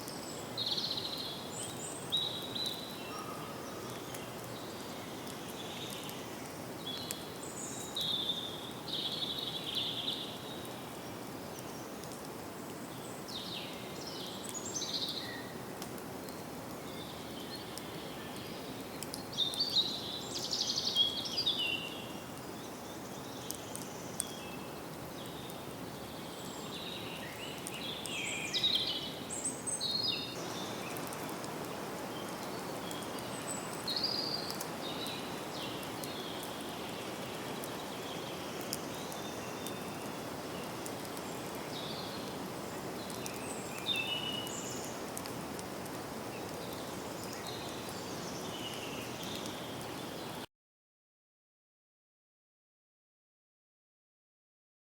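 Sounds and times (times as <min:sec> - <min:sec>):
small birds chirping: 0:00.0 - 0:50.4.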